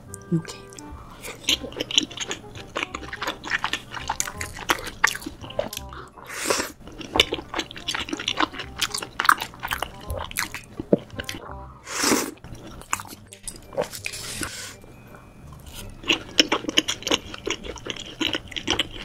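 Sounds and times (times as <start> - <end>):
close-miked chewing: 0.1 - 19.0.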